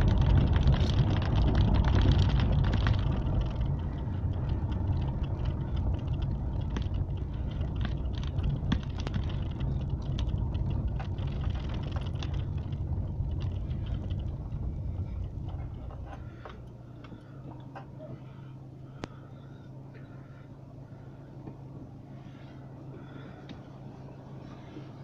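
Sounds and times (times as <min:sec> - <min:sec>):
small rattles and clicks: 0:00.0 - 0:23.8
car rumbling over cobblestones: 0:00.0 - 0:25.0
engine idling: 0:00.0 - 0:25.0.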